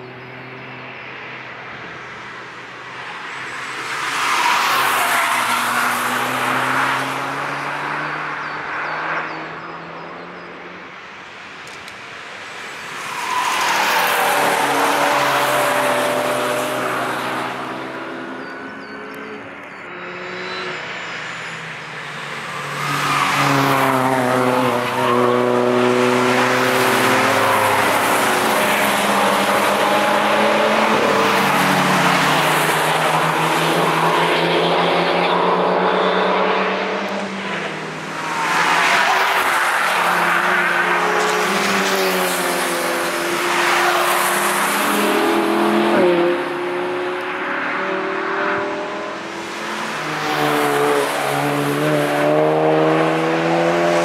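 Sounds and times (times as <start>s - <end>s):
cars passing at speed: 0.0s - 54.0s.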